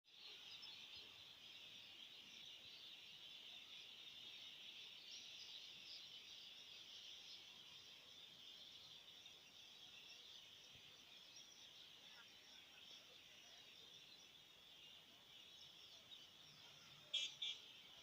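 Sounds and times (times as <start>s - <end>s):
faint high-pitched hiss: 0.1s - 18.0s.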